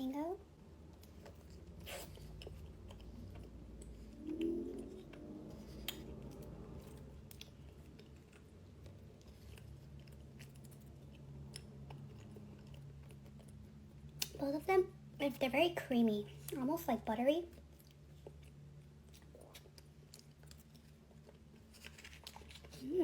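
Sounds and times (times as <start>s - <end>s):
person chewing pastry: 0.5s - 14.4s, 17.5s - 23.0s.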